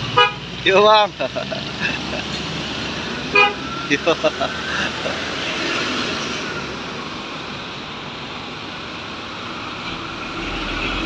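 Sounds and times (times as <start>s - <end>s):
minibus passing close by: 0.0s - 11.0s
traffic rumble: 0.0s - 11.0s.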